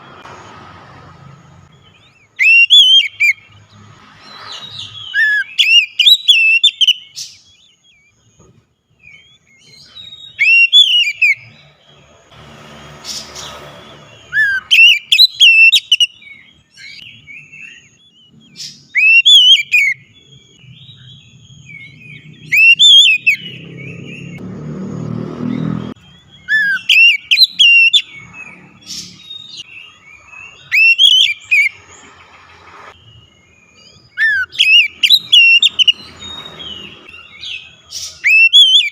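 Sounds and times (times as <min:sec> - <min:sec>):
bird singing whistled notes: 0:01.7 - 0:12.0, 0:13.9 - 0:24.4, 0:25.4 - 0:38.9.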